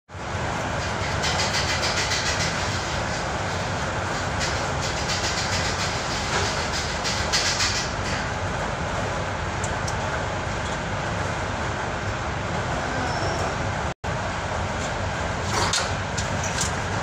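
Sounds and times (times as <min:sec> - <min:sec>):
machine running with low hum: 0:00.1 - 0:17.0.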